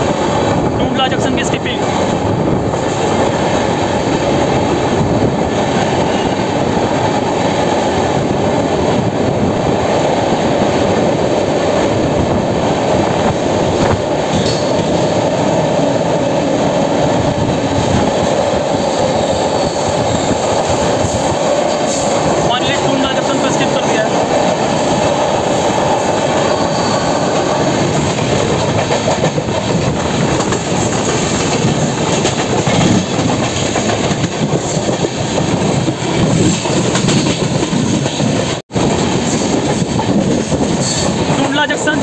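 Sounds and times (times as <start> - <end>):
train wheels on rails: 0.0 - 42.0.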